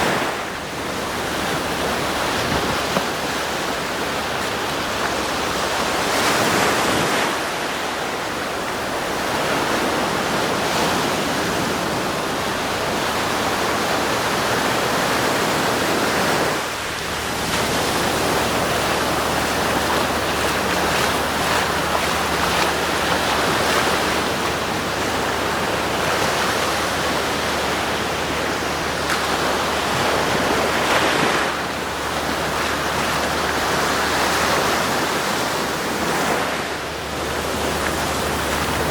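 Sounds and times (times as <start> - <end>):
waves washing onto beach: 0.0 - 38.9.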